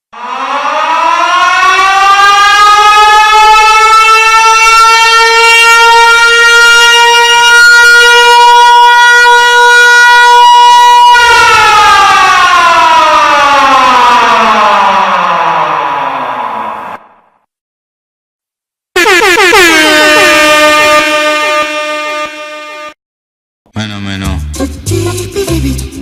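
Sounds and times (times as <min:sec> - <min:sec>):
air-raid siren: 0:00.0 - 0:17.5, 0:19.0 - 0:23.0.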